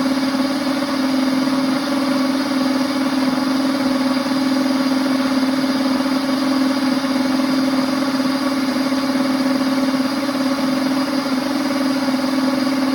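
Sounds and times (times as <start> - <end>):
blender motor running: 0.0 - 12.9.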